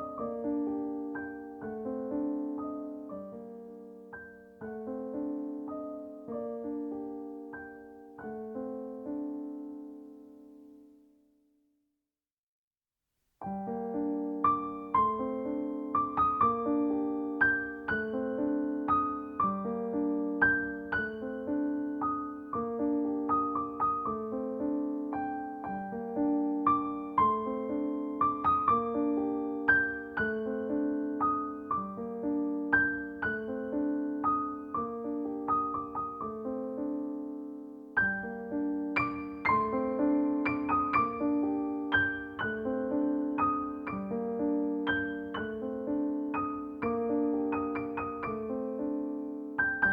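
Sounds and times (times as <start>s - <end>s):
soft slow piano music: 0.0s - 11.4s, 13.4s - 49.9s.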